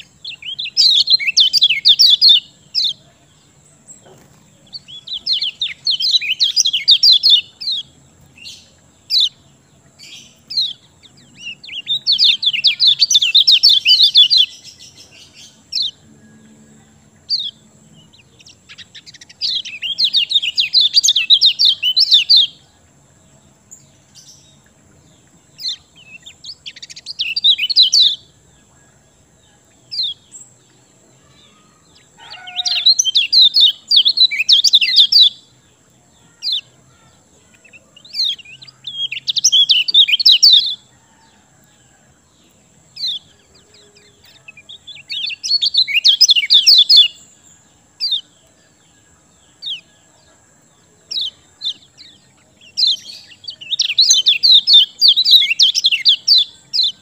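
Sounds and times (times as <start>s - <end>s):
songbird chattering trills: 0.0s - 57.0s.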